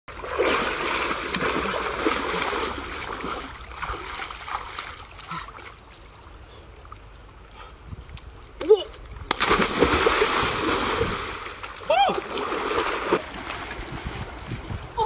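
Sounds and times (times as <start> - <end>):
water splashing and churning: 0.1 - 15.0.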